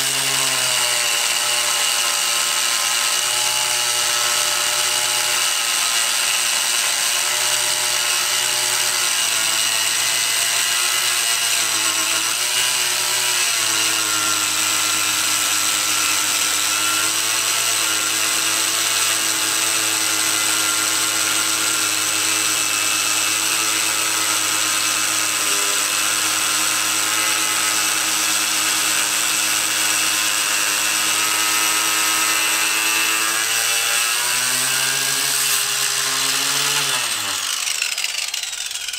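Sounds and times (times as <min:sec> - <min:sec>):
angle grinder cutting steel: 0:00.0 - 0:38.9.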